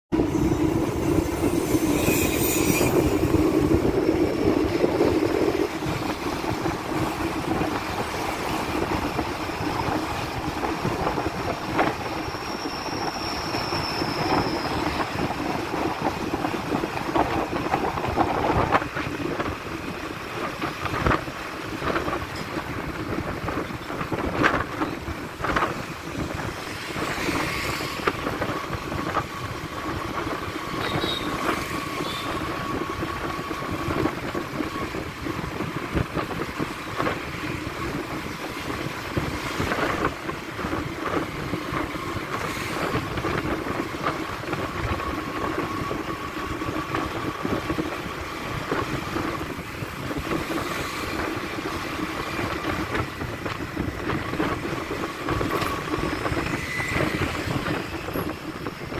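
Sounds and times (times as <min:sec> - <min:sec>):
motorbike traffic: 0:00.1 - 0:58.9
vehicle engine and road rumble: 0:00.1 - 0:58.9.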